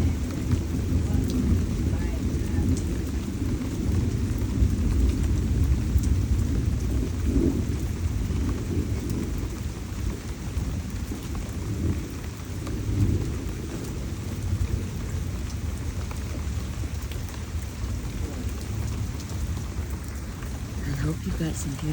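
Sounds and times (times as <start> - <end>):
heavy rain: 0.0 - 21.9
raindrops ticking: 0.0 - 21.9
rolling thunder rumble: 0.0 - 21.9.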